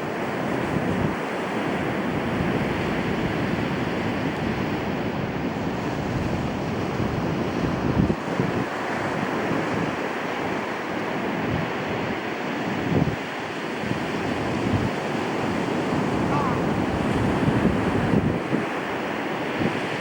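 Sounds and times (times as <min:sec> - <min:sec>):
rushing wind: 0:00.0 - 0:20.0
wind buffeting microphone: 0:00.0 - 0:20.0.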